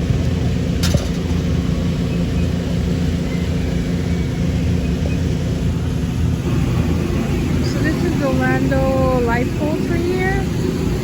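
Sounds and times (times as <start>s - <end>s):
machinery droning: 0.0s - 11.0s.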